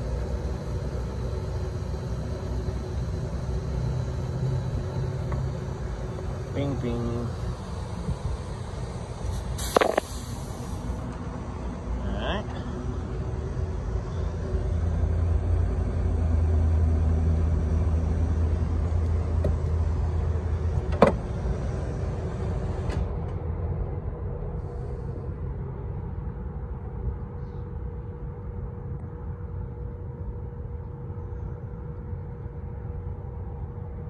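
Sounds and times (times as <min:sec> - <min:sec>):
faint steady hum: 0:00.0 - 0:34.0
steady low rumble: 0:00.0 - 0:34.0.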